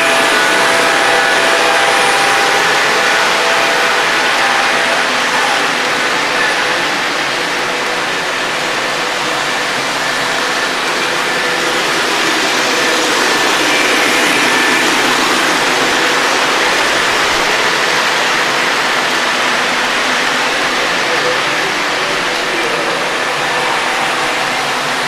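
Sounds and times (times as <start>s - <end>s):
model train wheels whirring: 0.0s - 25.0s.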